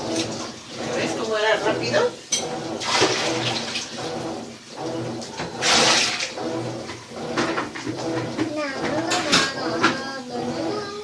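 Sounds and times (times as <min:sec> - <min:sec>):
washing machine motor hum: 0:00.0 - 0:11.0
washing machine water sloshing: 0:00.0 - 0:11.0.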